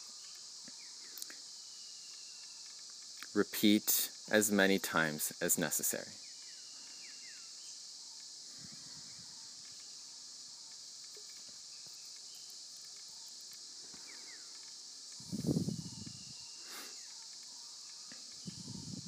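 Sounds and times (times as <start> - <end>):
faint bird chirps: 0.0 - 3.4, 4.0 - 19.0
insect chorus: 0.0 - 19.0.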